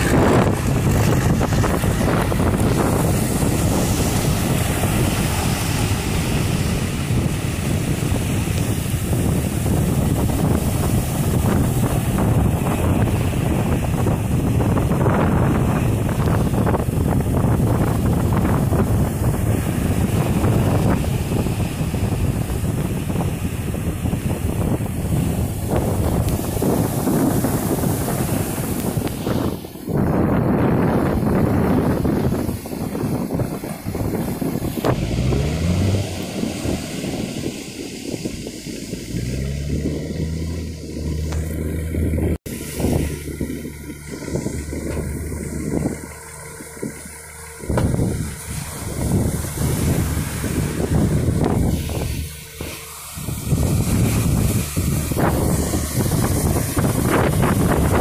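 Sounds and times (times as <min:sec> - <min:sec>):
strong wind on microphone: 0:00.0 - 0:58.0
waves washing against boat: 0:00.0 - 0:58.0.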